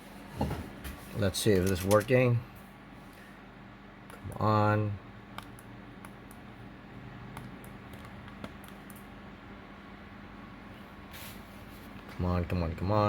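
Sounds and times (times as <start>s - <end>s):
computer fans humming: 0.0s - 13.0s.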